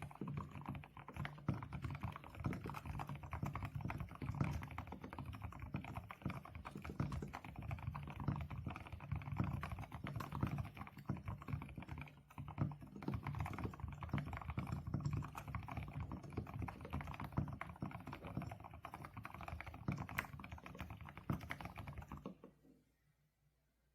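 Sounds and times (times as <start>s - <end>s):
fast typing on mechanical keyboard: 0.0s - 22.4s.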